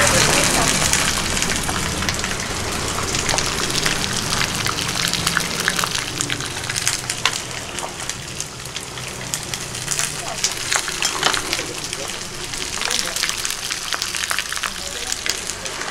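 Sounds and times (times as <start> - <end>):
oil popping and crackling: 0.0 - 15.9
tofu frying in hot oil: 0.0 - 15.9.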